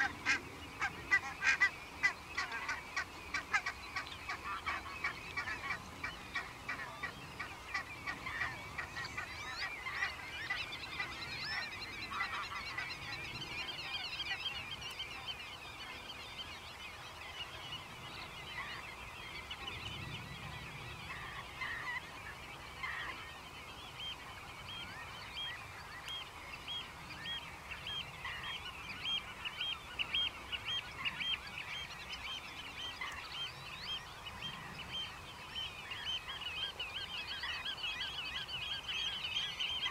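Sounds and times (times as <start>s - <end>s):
chorus of bird calls: 0.0s - 39.9s.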